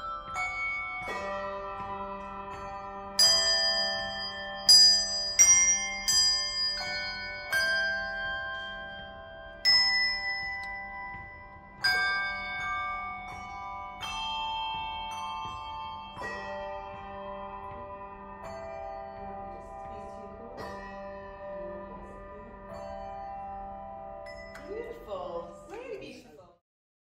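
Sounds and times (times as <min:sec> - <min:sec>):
handbells playing slow tune: 0:00.0 - 0:25.8.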